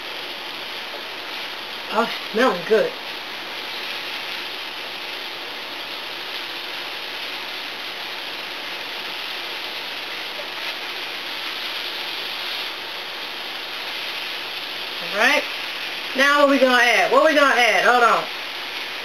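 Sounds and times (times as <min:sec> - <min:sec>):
vegetables sizzling in a skillet: 0:00.0 - 0:19.0.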